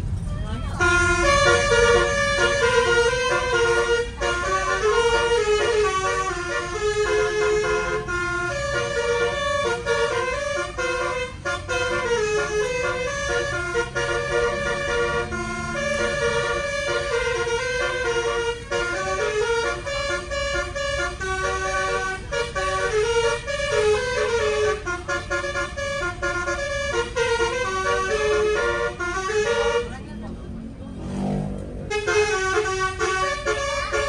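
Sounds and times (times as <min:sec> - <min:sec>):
bus air horns playing melody: 0:00.7 - 0:30.2, 0:31.8 - 0:34.0.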